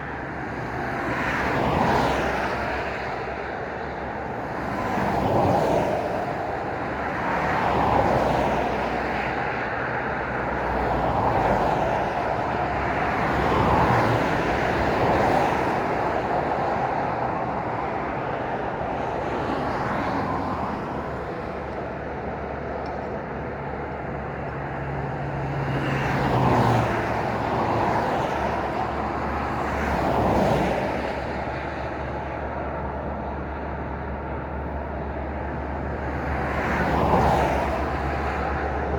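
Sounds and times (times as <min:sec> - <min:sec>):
road noise hum: 0:00.0 - 0:38.9
vehicles passing: 0:00.0 - 0:38.9.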